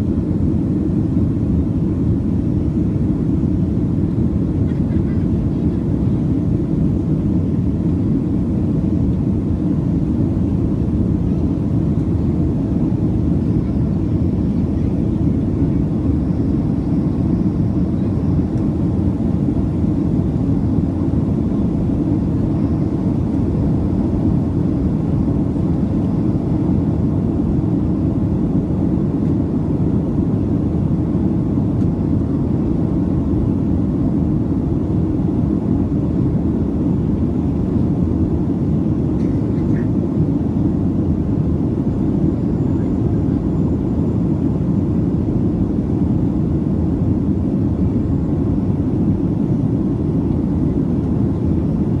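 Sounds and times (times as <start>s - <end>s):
airplane cabin engine roar: 0.0s - 52.0s.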